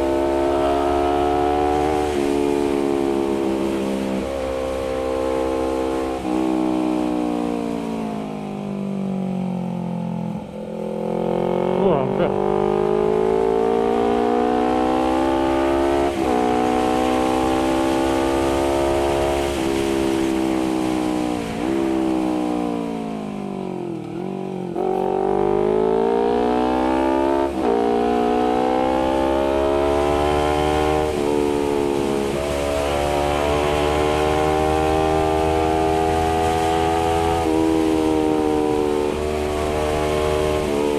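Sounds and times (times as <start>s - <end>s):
motorcycle engine revving and shifting: 0.0s - 40.9s.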